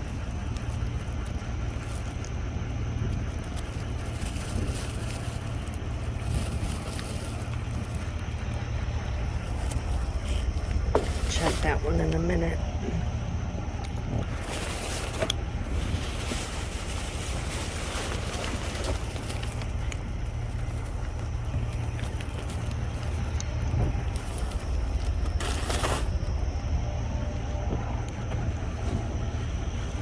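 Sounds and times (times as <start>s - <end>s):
plastic bags crinkling: 0.0s - 12.8s, 13.6s - 26.6s
low rumble: 0.0s - 30.0s.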